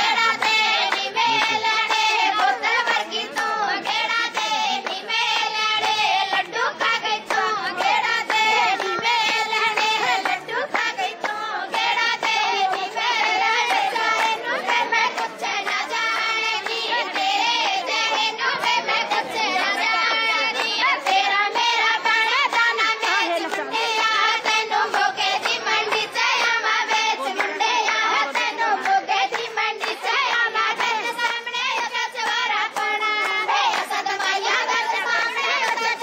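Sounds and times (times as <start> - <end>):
hand clapping: 0.0 - 36.0
women singing together: 0.0 - 36.0.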